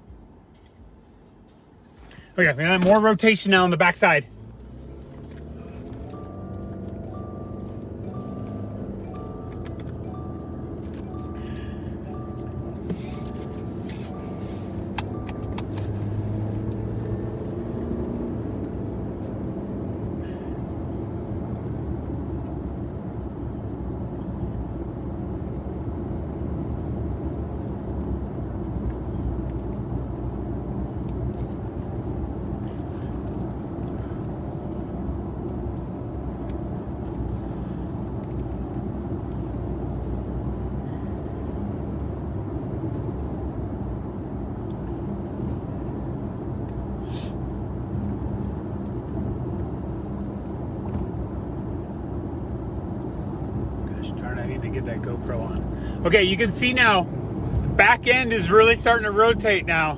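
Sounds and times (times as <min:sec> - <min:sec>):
vehicle rumble from inside cabin: 0:00.0 - 0:59.9.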